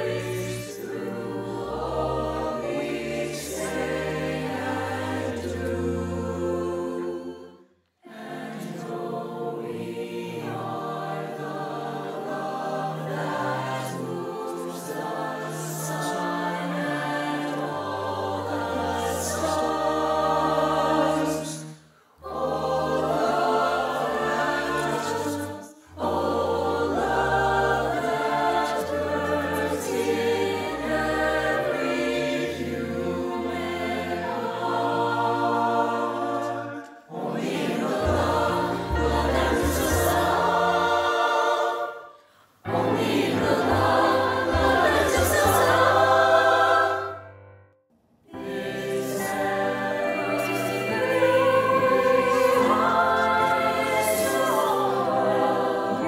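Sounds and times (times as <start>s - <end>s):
mixed-voice choir singing: 0.0s - 47.6s, 48.2s - 56.0s.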